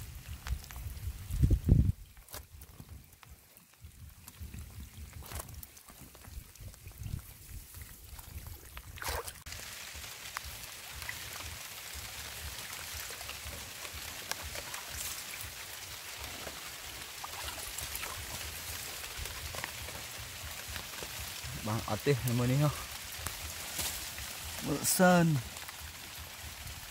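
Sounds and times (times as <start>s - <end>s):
rain on water and leaves: 0.0s - 26.9s
water splashing with knocks: 0.0s - 26.9s.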